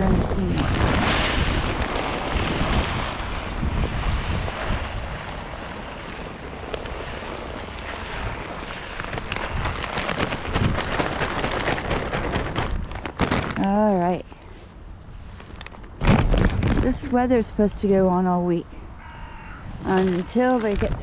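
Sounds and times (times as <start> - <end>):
wind buffeting microphone: 0.0 - 14.3, 14.9 - 21.0
rustling crackles: 0.0 - 17.8, 19.6 - 21.0.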